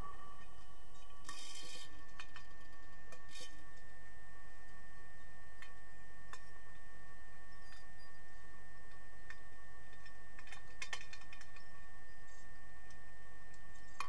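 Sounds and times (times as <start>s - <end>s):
faint underwater hum: 0.0s - 14.0s.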